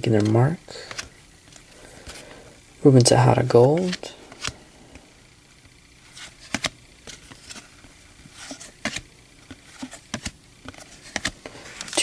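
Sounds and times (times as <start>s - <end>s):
cards being flipped: 0.0s - 2.4s, 3.5s - 5.0s, 5.6s - 12.0s.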